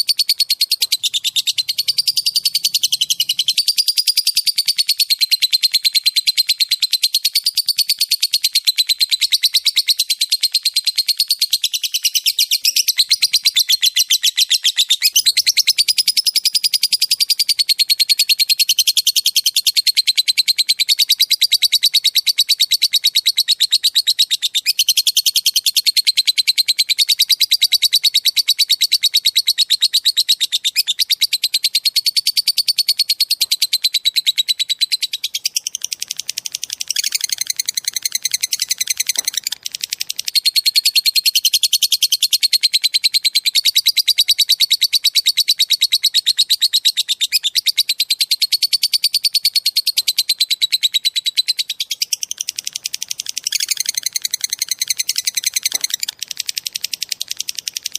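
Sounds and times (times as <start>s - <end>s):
small songbird trilling: 0.0s - 5.2s, 8.8s - 50.1s, 50.7s - 57.9s.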